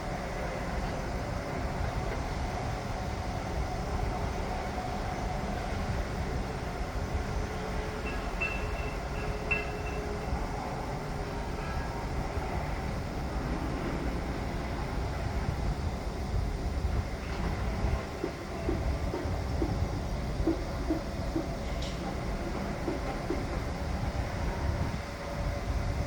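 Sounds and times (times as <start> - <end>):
machinery low rumble: 0.0 - 26.0.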